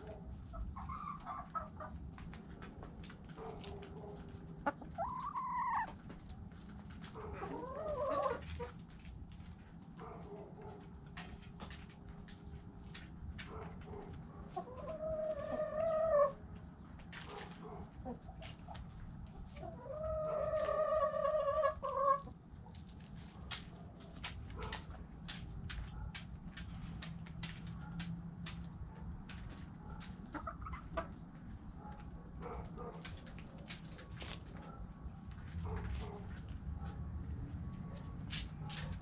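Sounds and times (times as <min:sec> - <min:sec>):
hens clucking: 0:00.0 - 0:09.1, 0:10.2 - 0:27.7, 0:28.4 - 0:34.7.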